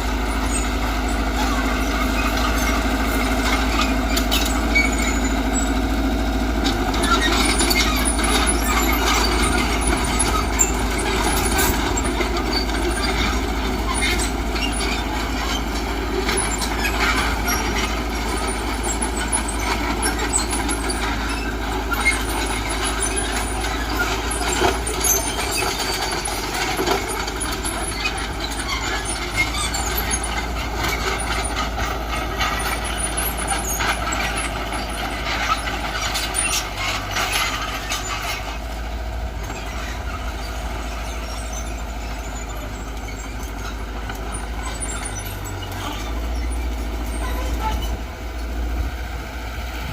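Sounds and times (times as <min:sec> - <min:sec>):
diesel engine running: 0:00.0 - 0:49.9
machinery clanks and rattles: 0:00.0 - 0:49.9.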